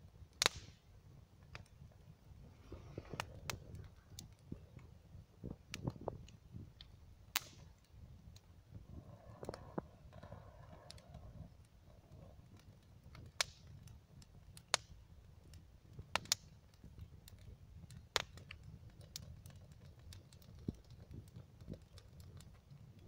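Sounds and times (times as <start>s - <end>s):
bonfire crackling: 0.0s - 23.0s
sharp fire pops: 0.3s - 23.0s.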